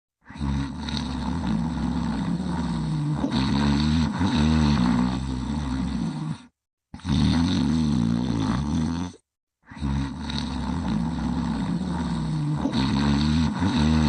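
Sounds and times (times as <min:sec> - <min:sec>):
low-pitched snoring: 0:00.2 - 0:14.0.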